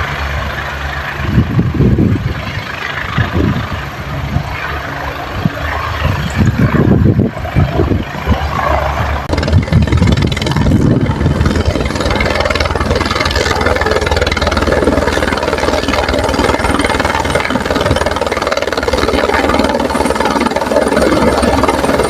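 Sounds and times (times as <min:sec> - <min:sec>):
helicopter engine noise: 0:00.0 - 0:22.0
helicopter rotor chopping: 0:00.0 - 0:22.0.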